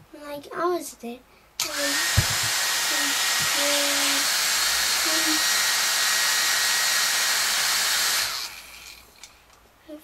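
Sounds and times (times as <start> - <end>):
electric motor and fan whirring: 1.6 - 9.6.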